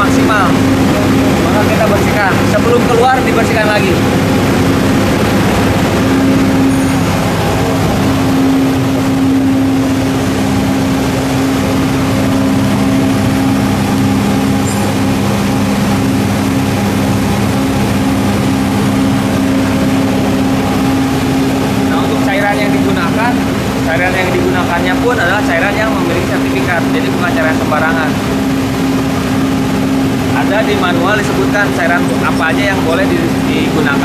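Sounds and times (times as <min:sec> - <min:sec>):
machinery droning: 0:00.0 - 0:34.0.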